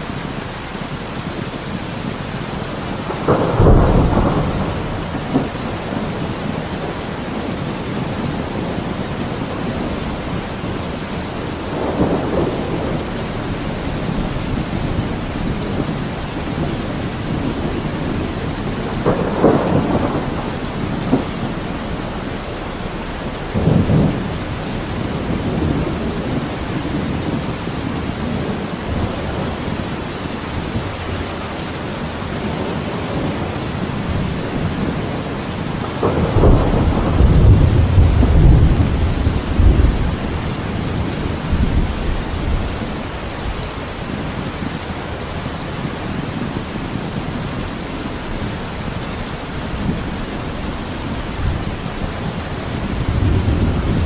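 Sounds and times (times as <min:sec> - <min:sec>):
heavy rain: 0:00.0 - 0:54.0
thunder rumbling: 0:00.0 - 0:54.0.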